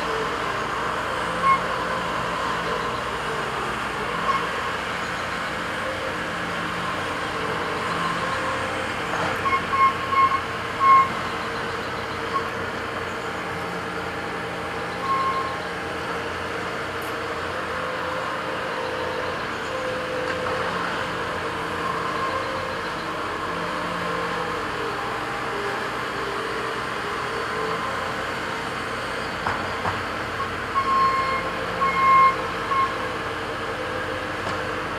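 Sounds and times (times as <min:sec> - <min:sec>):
diesel construction machinery running: 0:00.0 - 0:34.9.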